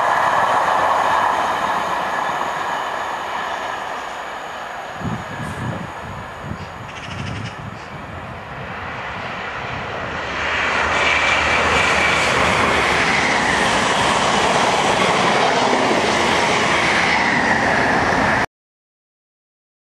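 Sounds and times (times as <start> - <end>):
train wheels rushing on rails: 0.0 - 18.5.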